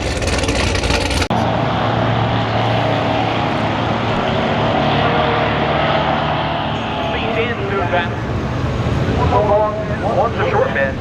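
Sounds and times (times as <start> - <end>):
vehicle engine droning: 0.0 - 10.5.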